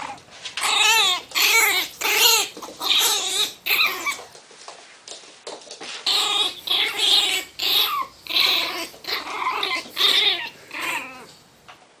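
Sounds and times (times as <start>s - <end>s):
small dog growling and barking: 0.0s - 4.3s, 6.0s - 11.4s.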